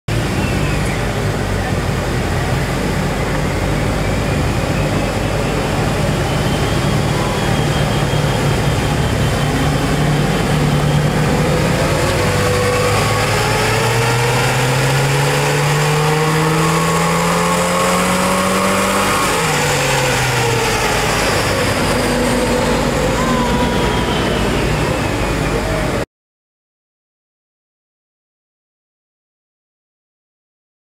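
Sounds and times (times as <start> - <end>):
car engine revving on dyno: 0.1 - 26.0.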